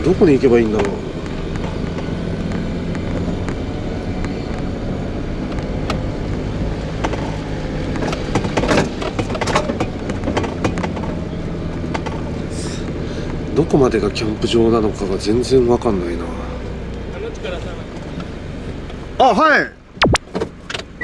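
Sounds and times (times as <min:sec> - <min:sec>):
tyre and road noise: 0:00.0 - 0:21.0
van engine running: 0:00.0 - 0:21.0.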